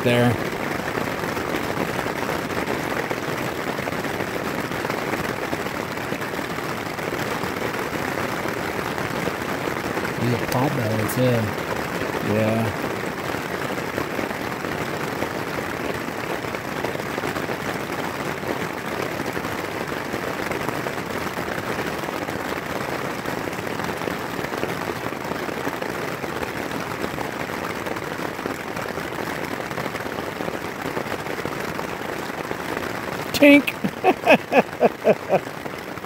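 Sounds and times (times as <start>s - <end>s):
steady crackling noise: 0.0s - 36.0s.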